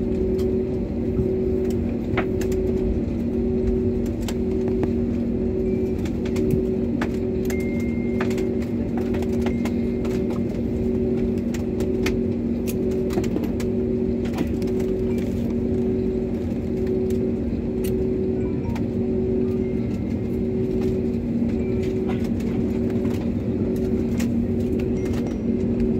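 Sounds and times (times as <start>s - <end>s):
jet engines idling rumble: 0.0s - 25.9s
low pulsing hum: 0.0s - 25.9s.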